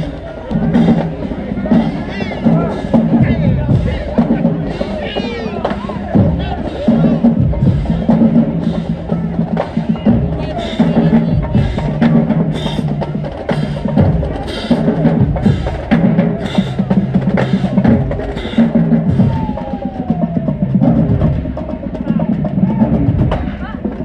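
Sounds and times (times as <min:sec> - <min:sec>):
snare and bass drums beating: 0:00.0 - 0:24.0.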